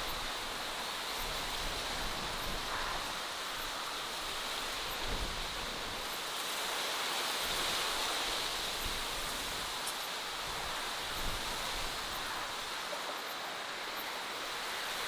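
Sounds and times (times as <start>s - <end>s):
rushing outdoor ambience: 0.0s - 15.0s.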